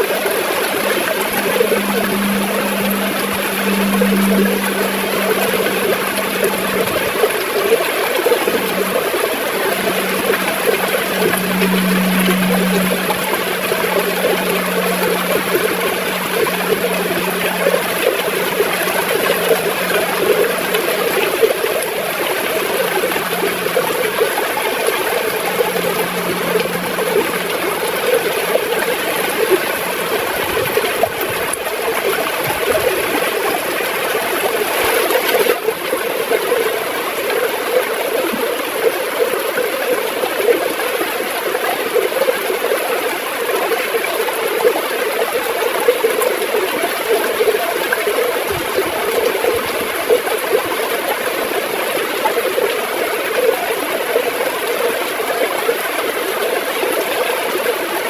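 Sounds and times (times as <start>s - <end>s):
river water gurgling: 0.0s - 58.0s.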